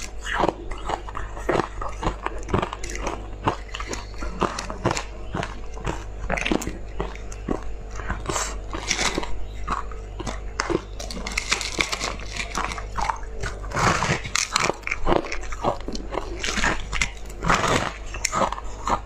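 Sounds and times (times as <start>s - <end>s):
crunching ice: 0.0s - 19.0s
steady low hum: 0.0s - 19.0s.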